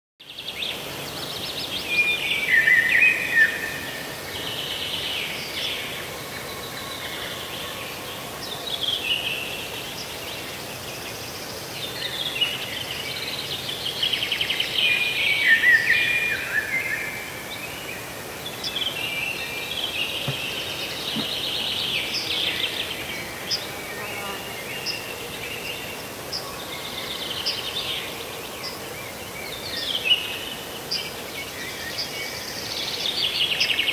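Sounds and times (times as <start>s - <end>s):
birds singing: 0.2s - 33.9s
steady background hiss: 0.3s - 33.9s.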